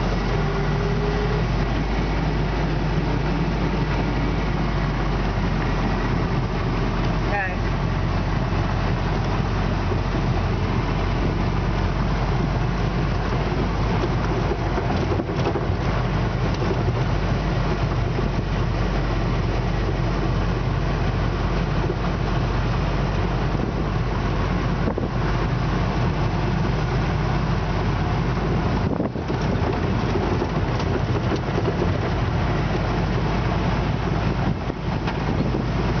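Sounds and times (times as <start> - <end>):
car engine running: 0.0 - 36.0
tyre and road noise: 0.0 - 36.0.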